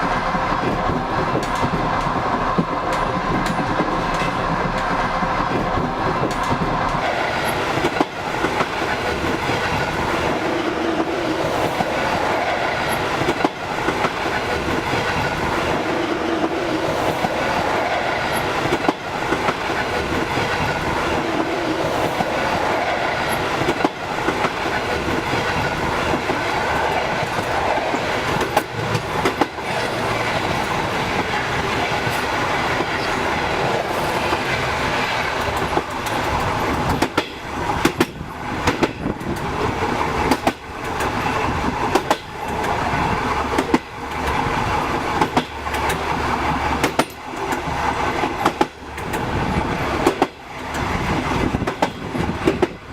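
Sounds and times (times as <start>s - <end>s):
train rumble: 0.0s - 52.9s
wheels clacking over rail joints: 0.0s - 52.9s.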